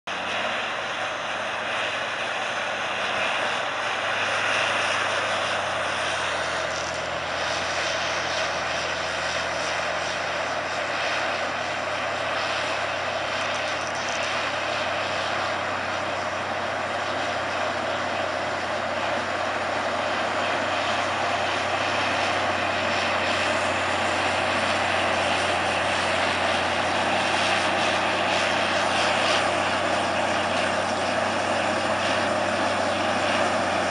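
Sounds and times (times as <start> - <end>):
diesel engine running under load: 0.1 - 33.9.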